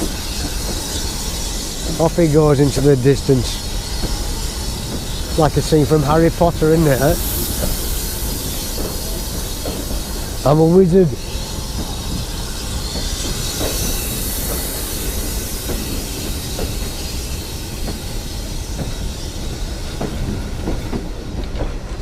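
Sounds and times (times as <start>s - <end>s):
steam hiss: 0.0s - 22.0s
steam train wheels clattering: 0.0s - 22.0s
wheels squealing: 0.0s - 22.0s.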